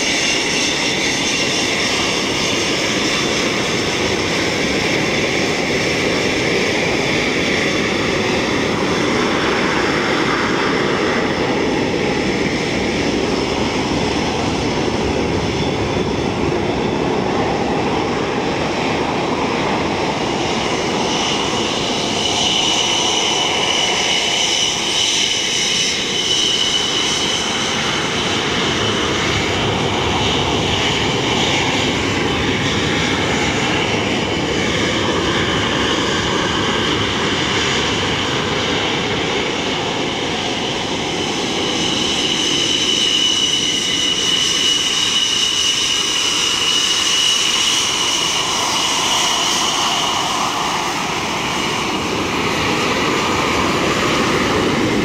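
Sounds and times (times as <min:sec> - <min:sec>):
high jet engine whine: 0:00.0 - 0:55.0
jet engines roaring: 0:00.0 - 0:55.0.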